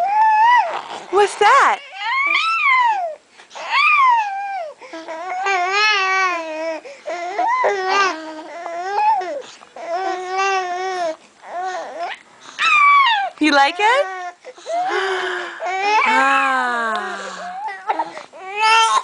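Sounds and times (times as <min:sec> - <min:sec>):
baby high-pitched vocalizing: 0:00.0 - 0:19.0.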